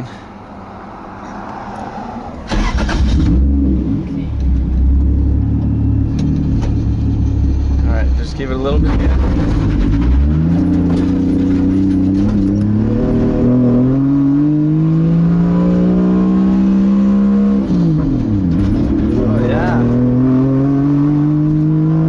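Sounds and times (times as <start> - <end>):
car engine accelerating: 0.8 - 22.0.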